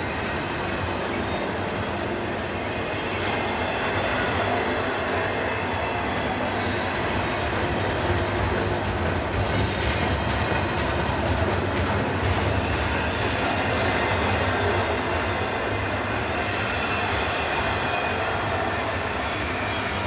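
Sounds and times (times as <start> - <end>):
train wheels rumbling: 3.0 - 20.0.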